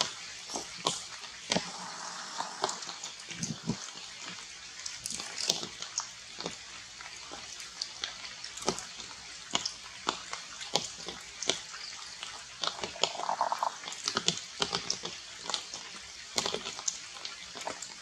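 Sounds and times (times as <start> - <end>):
water dripping from leaves: 0.0 - 18.0.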